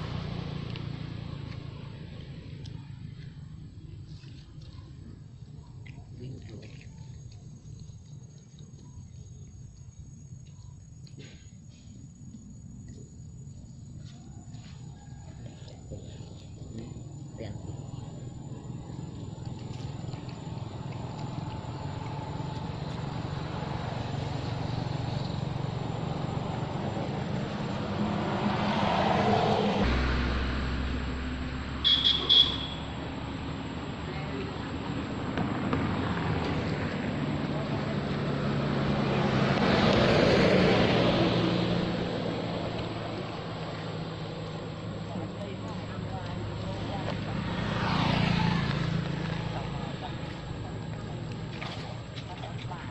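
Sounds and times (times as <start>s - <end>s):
vehicle engine humming: 0.0s - 52.9s.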